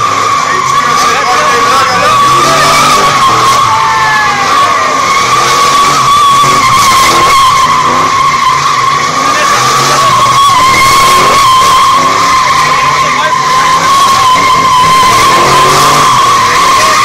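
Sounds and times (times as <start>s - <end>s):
car engine revving: 0.0s - 17.0s
tires screeching: 0.0s - 17.0s.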